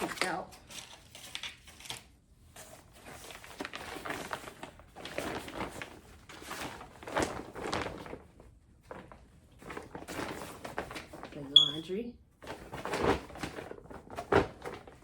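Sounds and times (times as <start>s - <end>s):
packaging rustling and crinkling: 0.0s - 11.5s, 12.4s - 15.0s.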